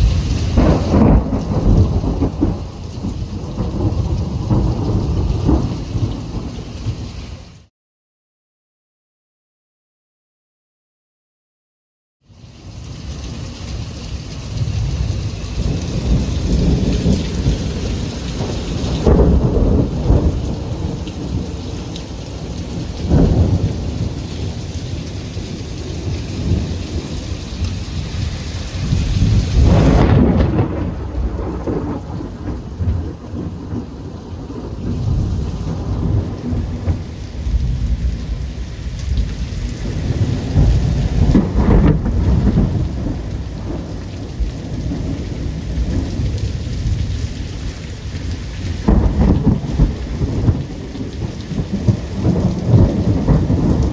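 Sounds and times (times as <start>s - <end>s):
thunder rumbling: 0.0s - 7.1s, 14.6s - 53.9s
steady rain: 0.0s - 7.7s, 12.3s - 53.9s.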